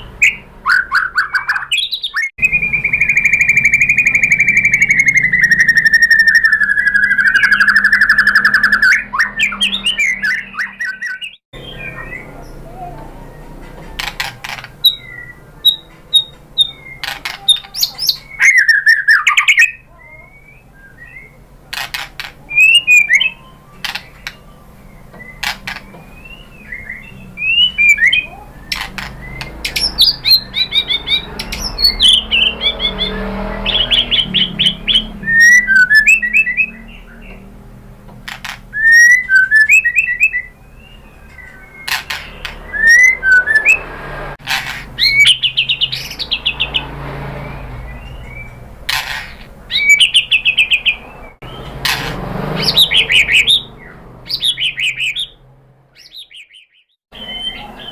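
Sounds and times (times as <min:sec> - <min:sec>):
bird singing whistles and chirps: 0:00.0 - 0:13.6, 0:14.8 - 0:21.4, 0:22.4 - 0:37.4, 0:38.7 - 0:43.9, 0:45.0 - 0:46.8, 0:47.4 - 0:48.6, 0:49.3 - 0:51.8, 0:52.6 - 0:55.4, 0:56.0 - 0:57.9.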